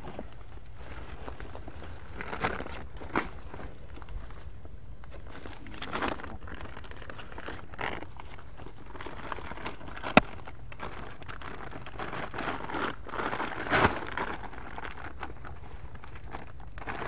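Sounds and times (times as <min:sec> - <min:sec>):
plastic sack rustling: 0:00.0 - 0:17.0.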